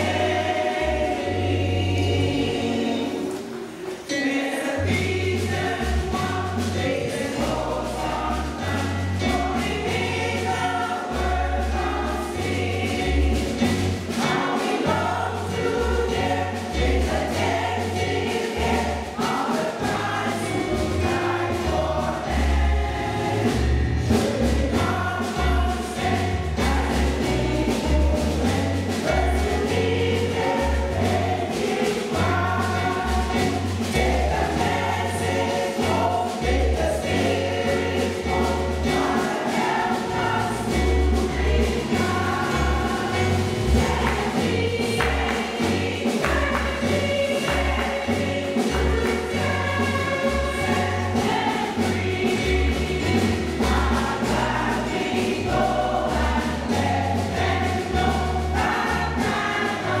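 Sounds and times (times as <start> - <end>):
bass line accompaniment: 0.0 - 3.3, 4.8 - 60.0
women's choir singing in harmony: 0.0 - 60.0.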